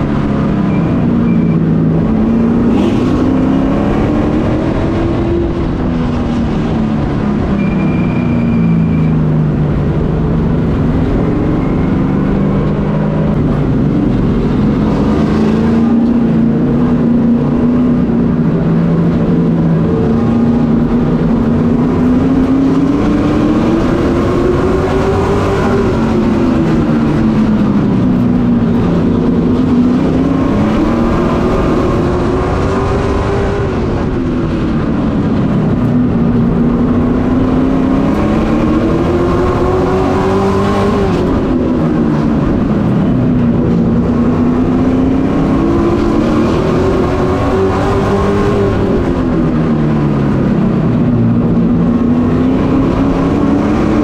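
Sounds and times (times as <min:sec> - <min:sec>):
race truck engine revving: 0:00.0 - 0:54.0.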